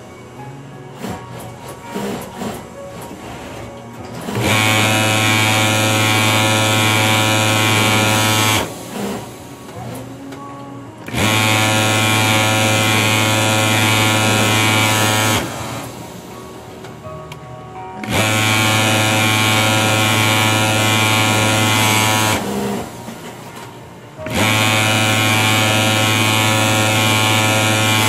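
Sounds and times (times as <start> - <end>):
overlock sewing machine running: 1.0 - 10.3, 11.0 - 16.3, 18.0 - 28.0.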